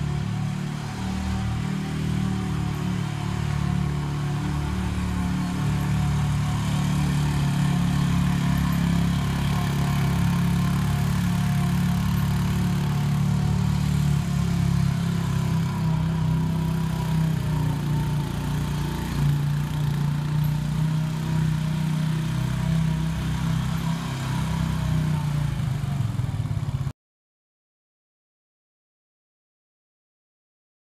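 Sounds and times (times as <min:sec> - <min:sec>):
engine running steadily: 0:00.0 - 0:26.9.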